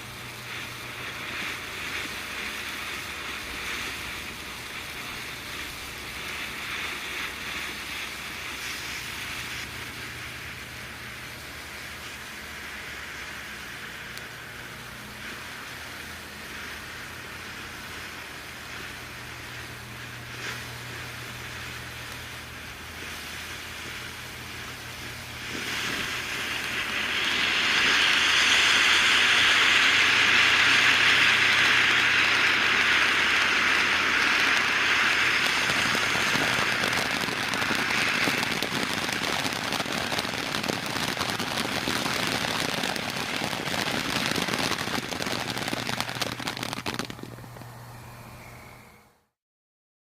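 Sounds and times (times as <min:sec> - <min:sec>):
fountain firework hissing: 0:00.0 - 0:49.3.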